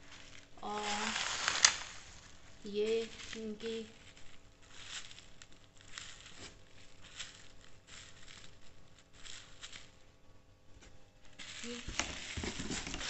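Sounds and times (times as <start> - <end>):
bubble wrap crinkling: 0.0 - 13.0
handling noise: 0.0 - 13.0.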